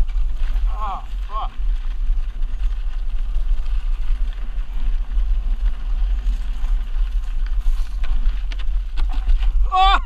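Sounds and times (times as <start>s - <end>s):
bike tyres crunching on dirt: 0.0s - 10.0s
wind buffeting microphone: 0.0s - 10.0s.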